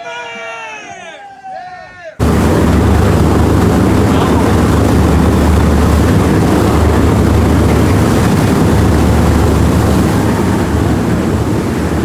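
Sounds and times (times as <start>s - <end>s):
boat engine rumbling: 2.2s - 12.0s
rushing wind: 2.2s - 12.0s
water noise: 2.2s - 12.0s.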